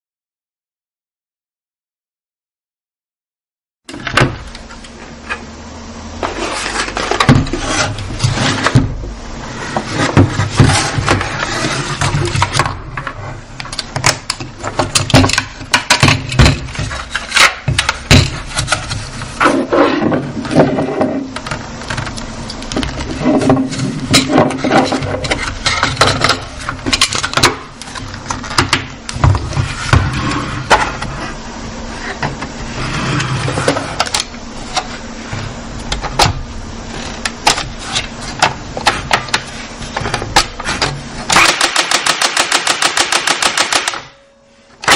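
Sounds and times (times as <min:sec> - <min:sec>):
steady low hum: 0:03.9 - 0:44.9.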